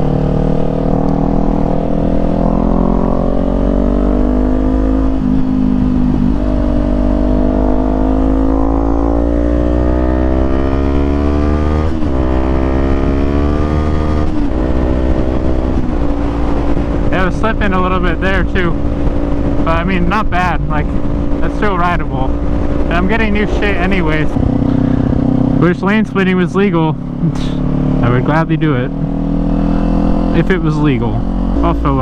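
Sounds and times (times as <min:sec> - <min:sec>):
motorcycle accelerating: 0:00.0 - 0:32.0.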